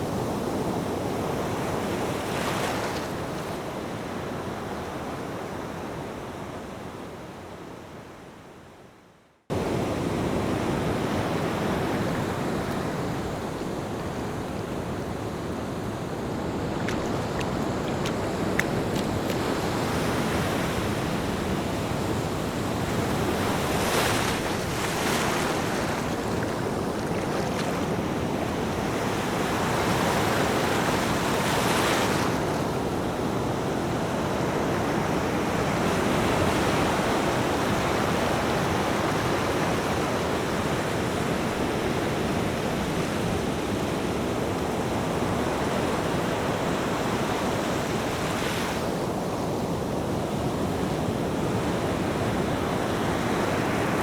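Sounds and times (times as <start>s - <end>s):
ocean waves washing ashore: 0.0s - 8.8s, 9.5s - 54.0s.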